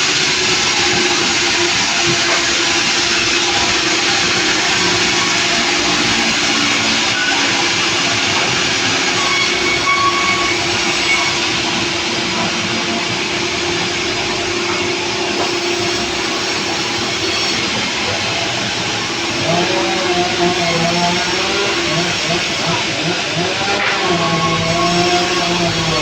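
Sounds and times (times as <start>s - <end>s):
sawmill saw running: 0.0s - 26.0s.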